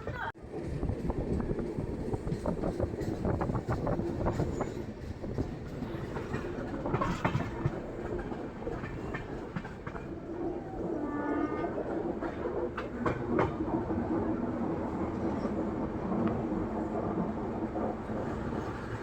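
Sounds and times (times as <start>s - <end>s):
train rumble: 0.0s - 19.0s
wheels clattering over rail joints: 1.1s - 19.0s.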